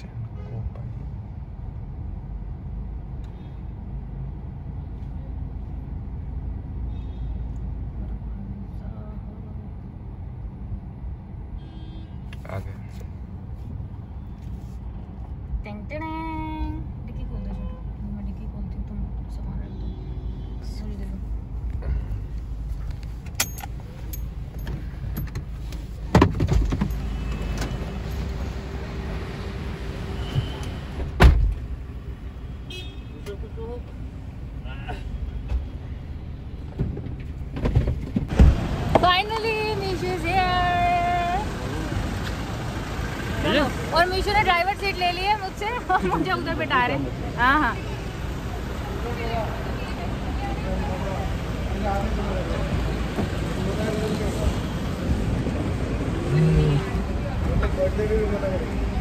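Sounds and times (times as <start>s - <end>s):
idling traffic rumble: 0.0s - 59.0s.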